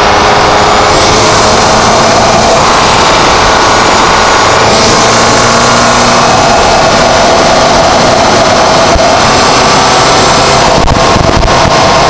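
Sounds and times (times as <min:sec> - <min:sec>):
car engine running loud: 0:00.0 - 0:12.0.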